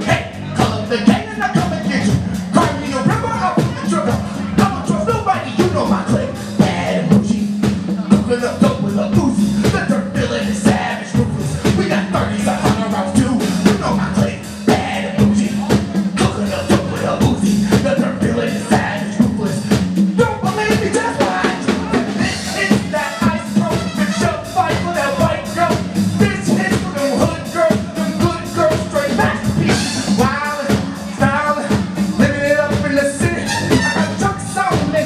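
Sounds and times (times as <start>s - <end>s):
drum beat: 0.0s - 35.0s
man singing: 0.0s - 35.0s.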